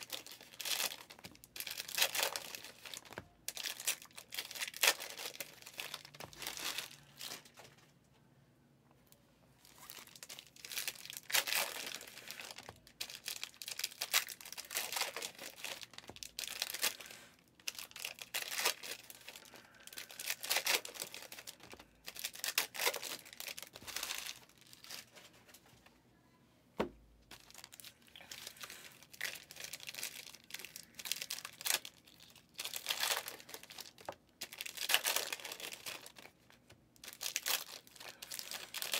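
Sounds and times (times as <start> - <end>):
wrappers tearing and crinkling: 0.0 - 7.7, 9.6 - 25.1, 27.3 - 38.9.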